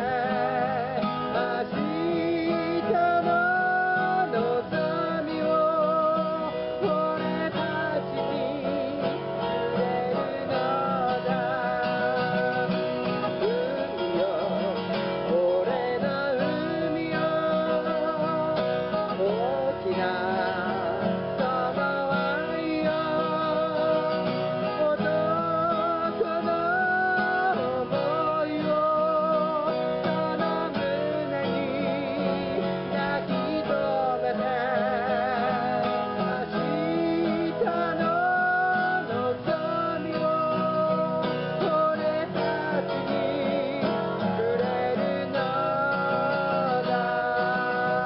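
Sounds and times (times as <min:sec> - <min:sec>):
acoustic guitars strummed: 0:00.0 - 0:48.0.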